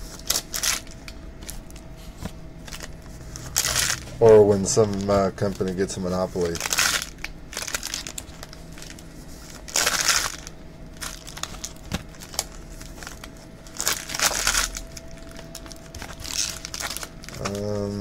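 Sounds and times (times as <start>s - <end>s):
faint steady hum: 0.0s - 18.0s
packaging crinkling and tearing: 0.1s - 1.9s, 2.6s - 18.0s.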